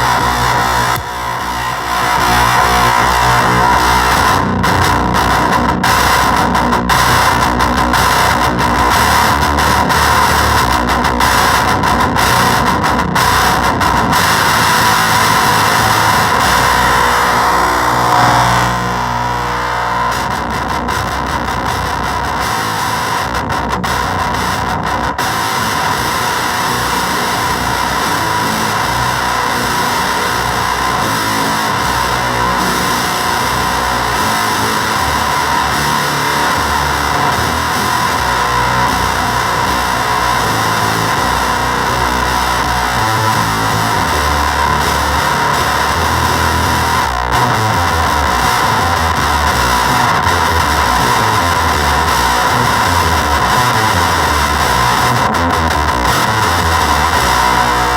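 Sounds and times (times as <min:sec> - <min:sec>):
distorted fuzz electric guitar: 0:00.0 - 0:57.9.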